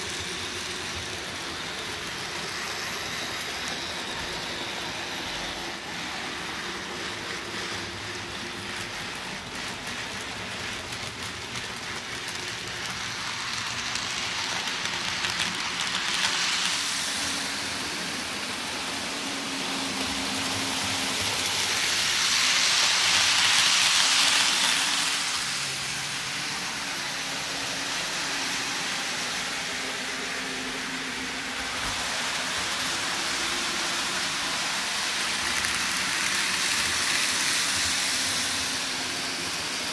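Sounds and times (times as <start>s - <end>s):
model trains running on rails: 0.0s - 39.9s.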